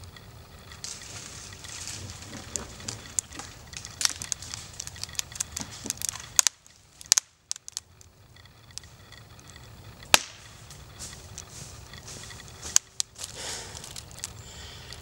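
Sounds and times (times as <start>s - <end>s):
tree hinge wood cracking: 0.6s - 15.0s.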